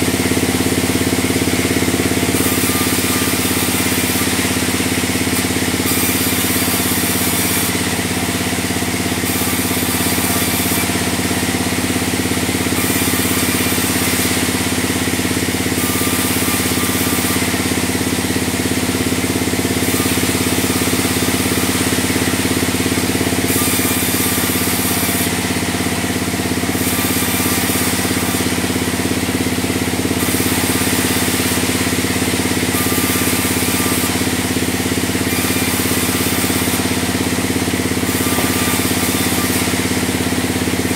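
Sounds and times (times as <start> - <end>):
bandsaw droning: 0.0 - 40.9.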